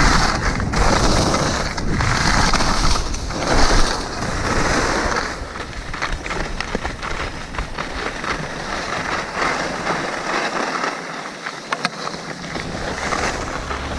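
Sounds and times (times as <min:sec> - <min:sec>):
wind rumble on microphone: 0:00.0 - 0:10.3, 0:12.2 - 0:13.9
skis scraping over packed snow: 0:00.0 - 0:13.9.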